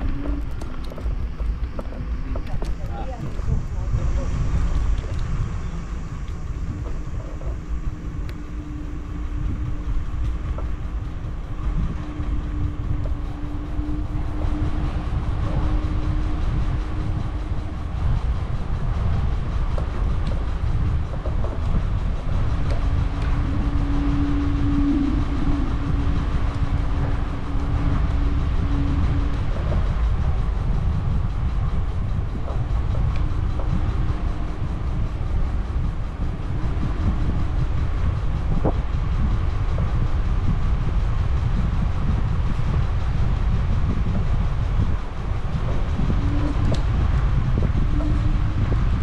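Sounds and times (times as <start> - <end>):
steady hum: 0.0 - 49.0.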